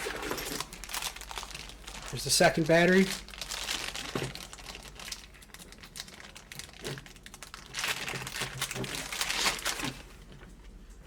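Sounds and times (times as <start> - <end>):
packaging crinkling: 0.0 - 10.4.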